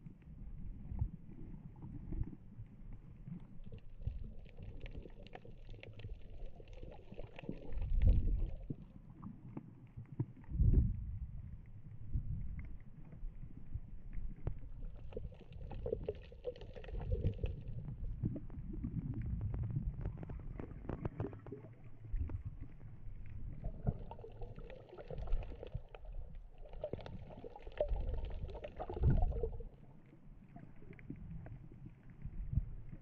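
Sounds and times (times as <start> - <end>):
water sloshing underwater: 0.0 - 33.0.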